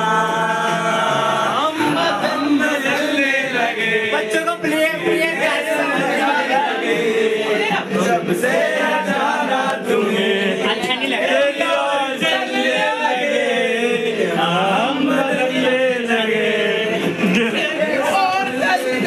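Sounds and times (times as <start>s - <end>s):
young men singing and chanting: 0.0s - 19.0s.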